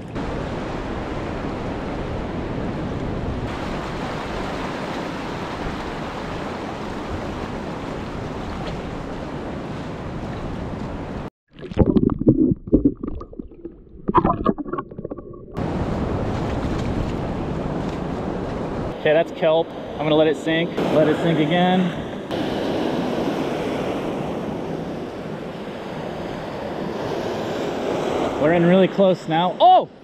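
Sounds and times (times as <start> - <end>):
ocean surf: 0.0 - 11.3, 15.6 - 30.0.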